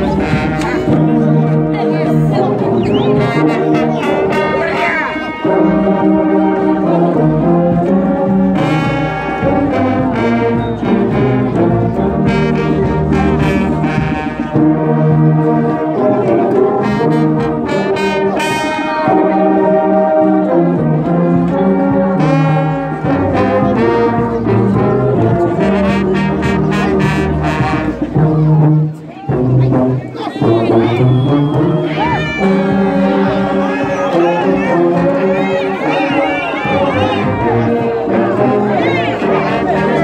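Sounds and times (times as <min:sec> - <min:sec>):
brass band playing chords: 0:00.0 - 0:40.0.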